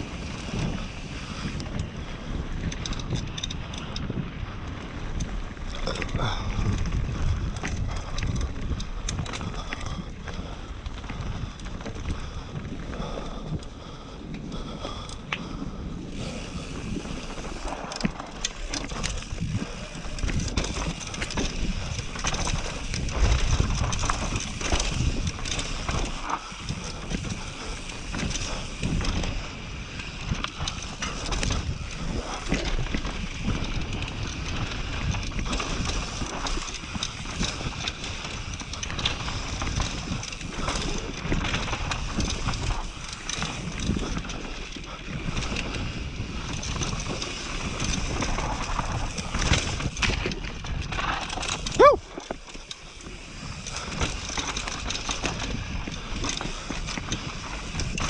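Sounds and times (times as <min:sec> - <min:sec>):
bike rattling over bumps: 0:00.0 - 0:58.0
bike tyres rolling over dirt: 0:00.0 - 0:58.0
wind on microphone: 0:00.0 - 0:58.0.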